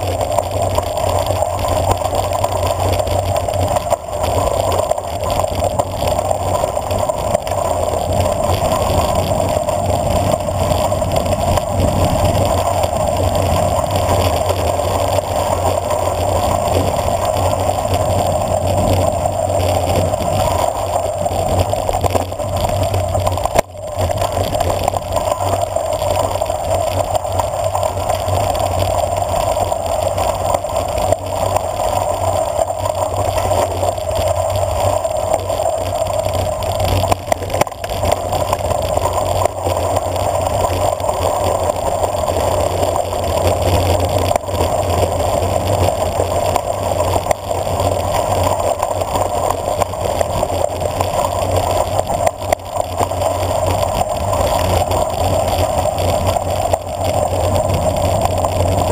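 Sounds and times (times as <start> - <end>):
wind on microphone: 0.0 - 58.9.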